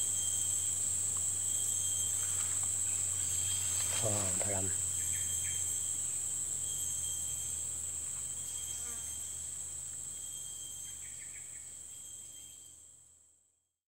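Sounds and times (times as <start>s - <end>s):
insects trilling: 0.0s - 13.1s.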